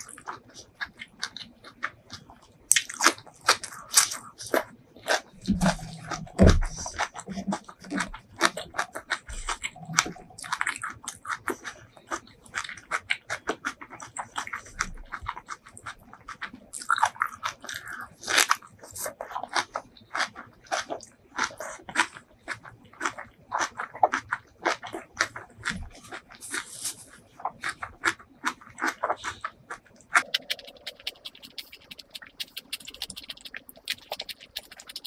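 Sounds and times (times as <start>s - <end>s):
chewing food with wet smacking: 0.0s - 35.0s.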